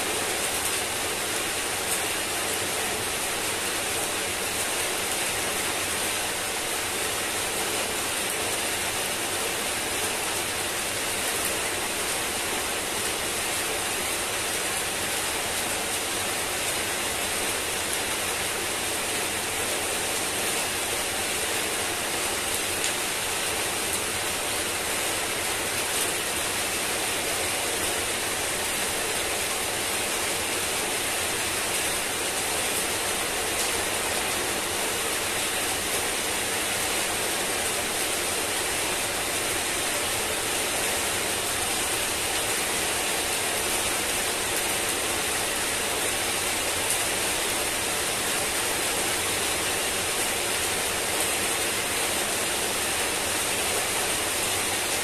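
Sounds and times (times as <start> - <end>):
heavy rain on wet pavement: 0.0 - 55.0.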